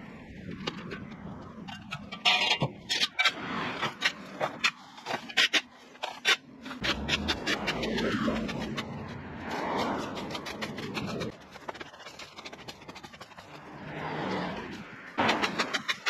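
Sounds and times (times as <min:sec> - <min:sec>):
scraping and rustling: 0:00.5 - 0:16.0.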